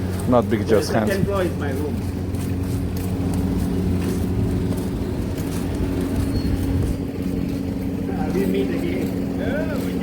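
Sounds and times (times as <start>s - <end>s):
engine idling: 0.0s - 10.0s
street background noise: 0.0s - 10.0s.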